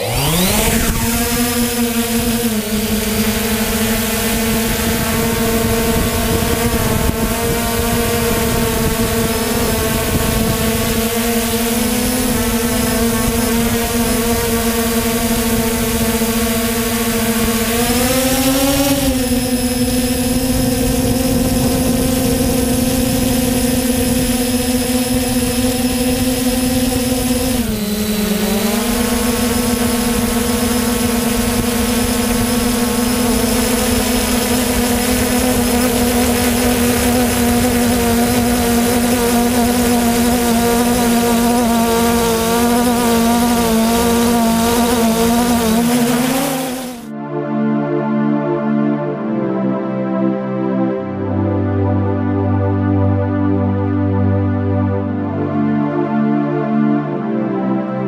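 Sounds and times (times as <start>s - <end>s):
drone motors humming: 0.0s - 47.1s.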